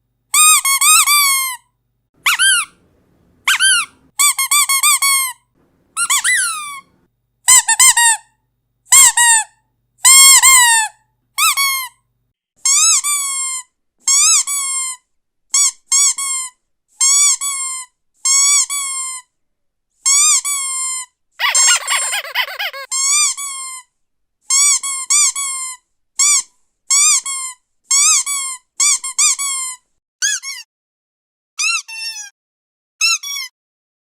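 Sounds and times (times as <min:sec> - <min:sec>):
squeaky dog toy squeaking: 0:00.3 - 0:02.8, 0:03.4 - 0:05.4, 0:06.0 - 0:06.9, 0:07.5 - 0:12.0, 0:12.6 - 0:19.3, 0:20.0 - 0:30.7, 0:31.6 - 0:32.3, 0:33.0 - 0:33.5.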